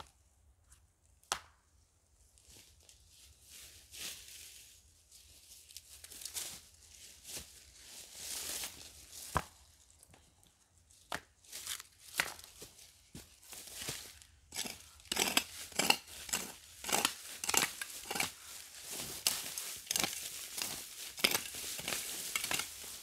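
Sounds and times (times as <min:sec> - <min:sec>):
rustling and crinkling: 0:02.4 - 0:23.0.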